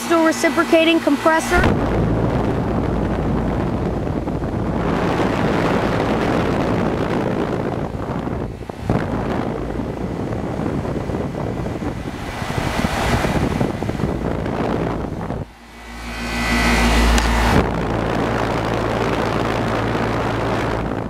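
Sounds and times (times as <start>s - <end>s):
air conditioner unit humming: 0.0s - 21.0s
wind rumbling on microphone: 0.0s - 21.0s.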